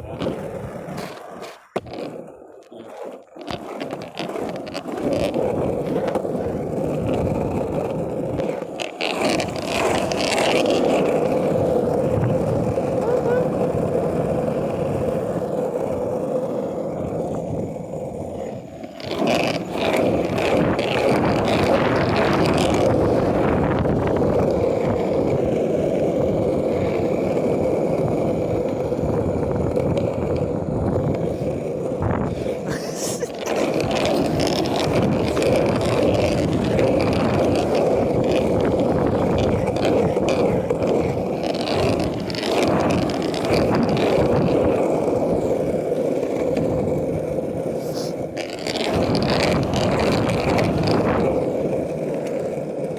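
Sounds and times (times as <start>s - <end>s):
wheels rolling on paved road: 0.0s - 52.9s.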